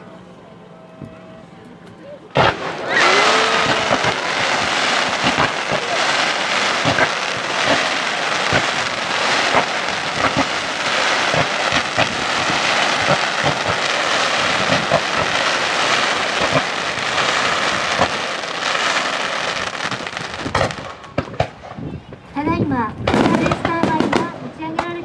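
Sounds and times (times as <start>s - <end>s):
firework whistling glide: 2.2s - 22.4s
fireworks booming and crackling: 2.3s - 25.0s.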